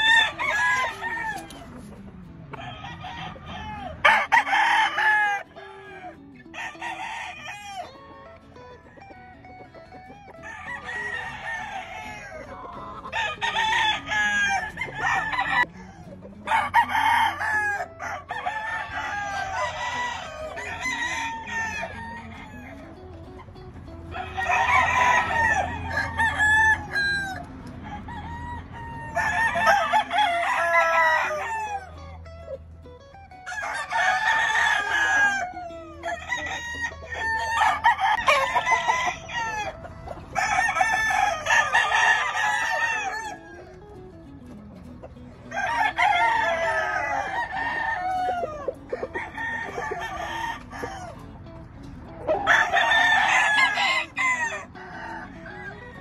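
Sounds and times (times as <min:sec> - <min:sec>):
roosters crowing: 0:00.0 - 0:56.0.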